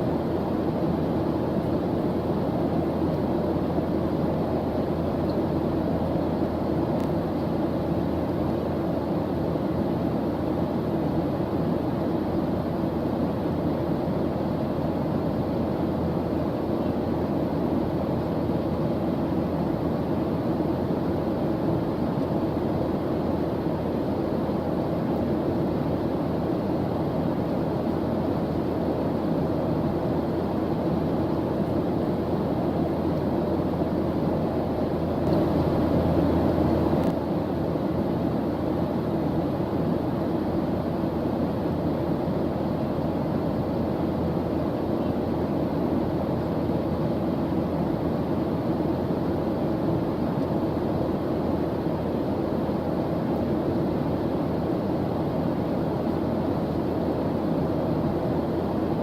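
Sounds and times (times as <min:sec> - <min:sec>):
low rushing white noise hiss: 0:00.0 - 0:59.0.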